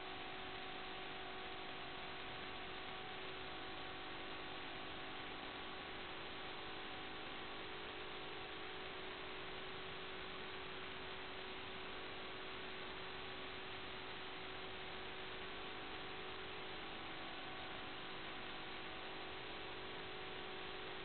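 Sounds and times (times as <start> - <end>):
faint constant hum: 0.0 - 21.0.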